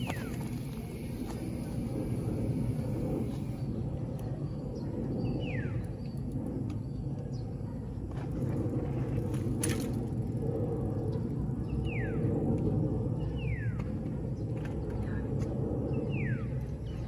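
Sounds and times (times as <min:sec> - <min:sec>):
wind and tyre rumble: 0:00.0 - 0:17.0.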